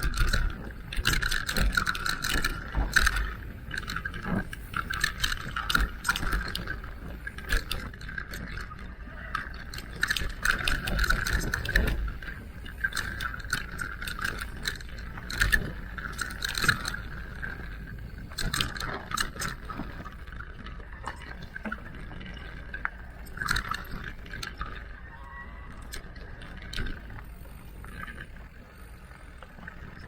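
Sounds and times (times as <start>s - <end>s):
bike rattling and clacking: 0.0s - 25.1s.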